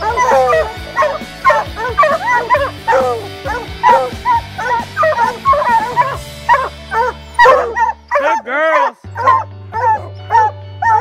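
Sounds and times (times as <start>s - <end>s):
hounds baying and barking: 0.0s - 11.0s.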